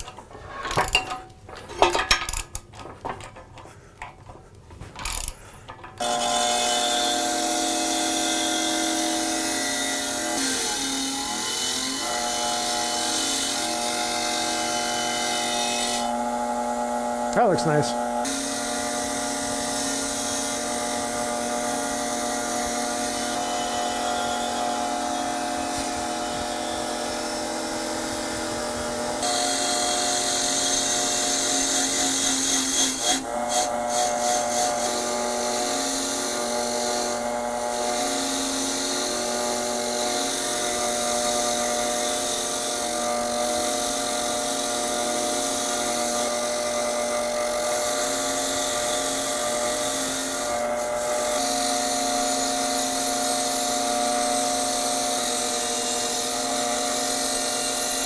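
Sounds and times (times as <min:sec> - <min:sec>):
power tool whining: 0:06.0 - 0:58.0.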